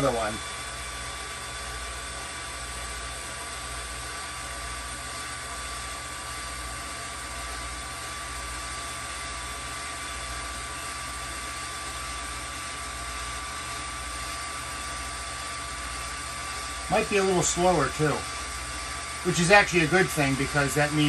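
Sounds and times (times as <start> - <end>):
electric motor whirring: 0.0 - 21.0.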